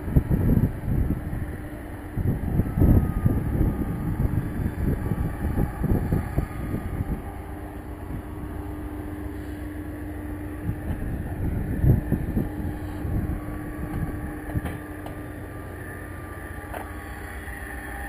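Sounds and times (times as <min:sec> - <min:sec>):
wind gusting on microphone: 0:00.0 - 0:17.7
low steady hum: 0:00.0 - 0:18.0.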